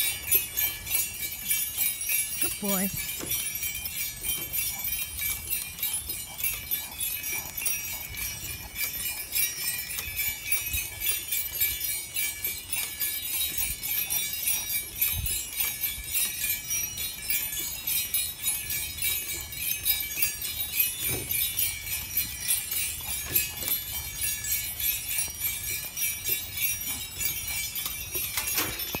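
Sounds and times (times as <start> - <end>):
dog collar jingling: 0.0 - 29.0.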